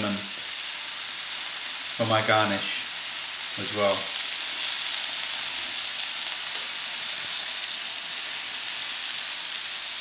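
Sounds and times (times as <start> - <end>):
vegetables sizzling on griddle: 0.0 - 10.0.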